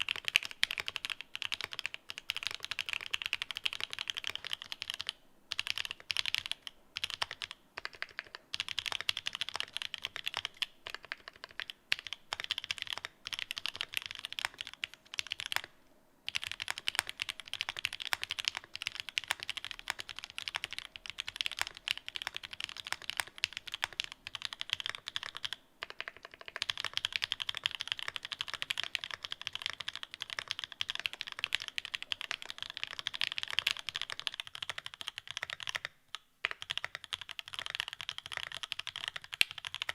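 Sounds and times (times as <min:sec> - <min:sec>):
mechanical keyboard typing: 0:00.0 - 0:15.7, 0:16.3 - 0:39.9.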